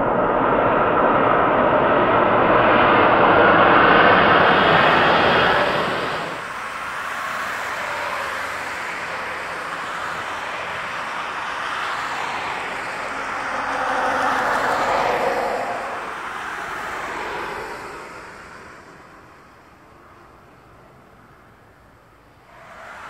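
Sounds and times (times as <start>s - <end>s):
jet engines rushing whine: 0.0s - 23.0s.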